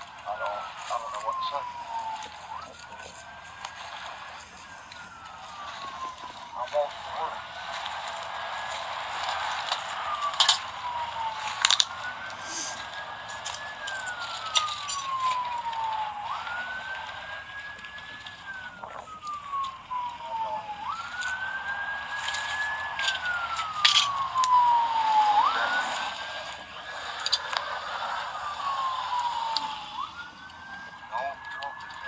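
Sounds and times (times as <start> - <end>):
ambulance siren wailing: 0.0 - 32.0.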